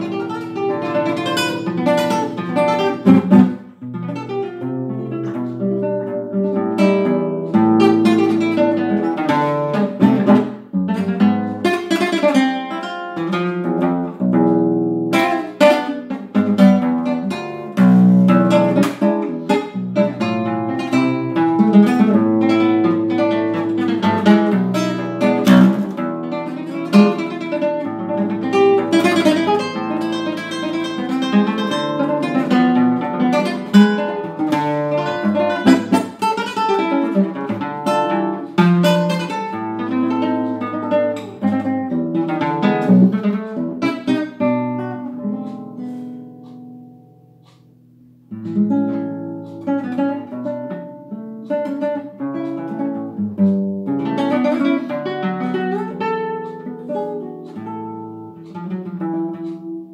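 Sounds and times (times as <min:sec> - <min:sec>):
classical guitar playing a tango: 0:00.0 - 0:59.9.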